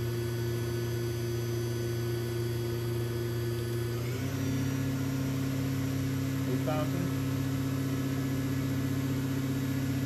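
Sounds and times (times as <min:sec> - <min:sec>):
machine spindle humming: 0:00.0 - 0:10.0.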